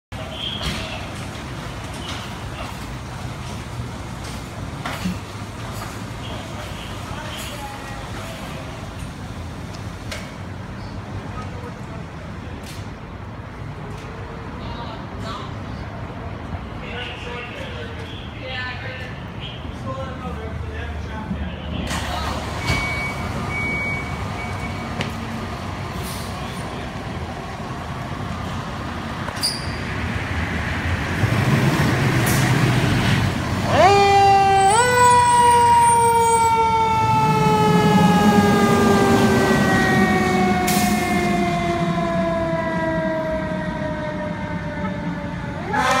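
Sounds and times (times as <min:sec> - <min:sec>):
fire engine engine running: 0:00.1 - 0:14.6, 0:21.4 - 0:46.0.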